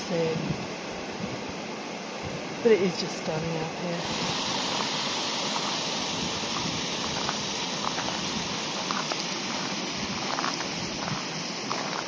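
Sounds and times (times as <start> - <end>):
stream over rock waterfalls: 0.0 - 12.0.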